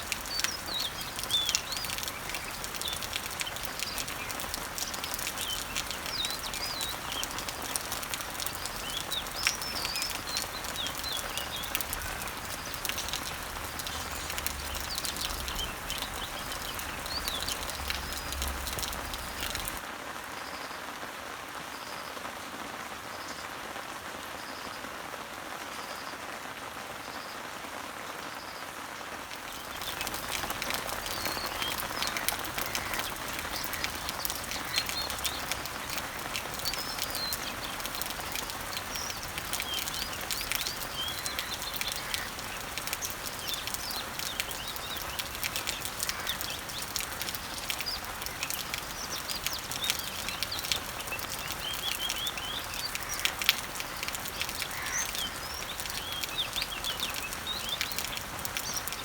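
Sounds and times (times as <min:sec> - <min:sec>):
birds chirping: 0:00.0 - 0:19.8, 0:29.3 - 0:59.0
water drips: 0:00.0 - 0:19.9, 0:29.3 - 0:59.0
rain pattering on leaves: 0:00.0 - 0:59.0.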